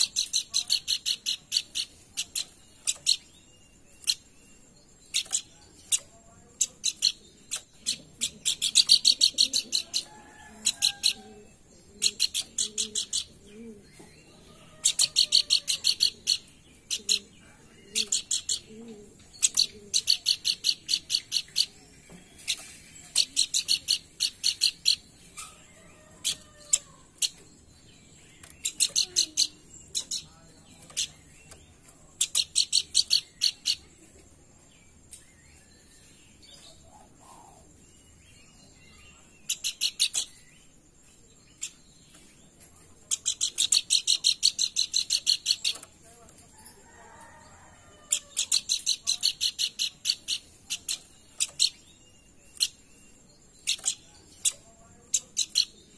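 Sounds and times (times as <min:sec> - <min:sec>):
bird song of rapid high notes: 0:00.0 - 0:11.2, 0:11.8 - 0:34.0, 0:34.6 - 0:47.0, 0:47.7 - 0:55.9
faint bird chirps: 0:00.0 - 0:55.9.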